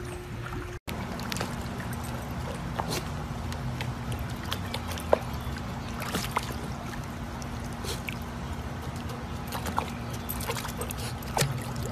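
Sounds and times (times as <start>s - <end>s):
pool water splashing: 0.0s - 11.9s.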